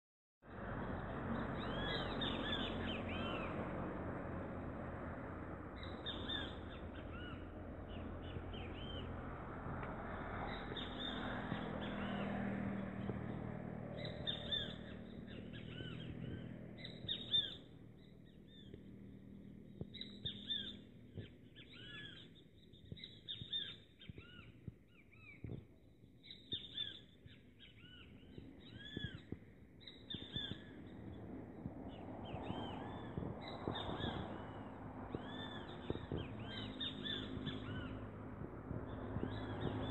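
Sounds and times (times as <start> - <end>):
birds chirping: 0.5 - 4.9, 5.5 - 39.9.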